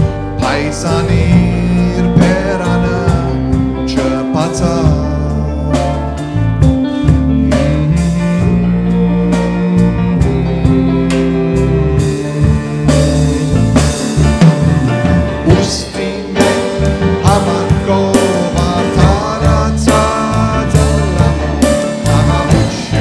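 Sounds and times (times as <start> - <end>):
electric bass: 0.0 - 23.0
grand piano: 0.0 - 23.0
wavering lead melody: 0.0 - 23.0.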